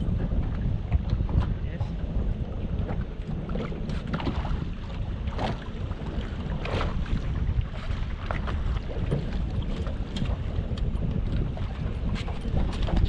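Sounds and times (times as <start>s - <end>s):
water lapping against boat: 0.0s - 13.0s
wind rumbling on microphone: 0.0s - 13.0s.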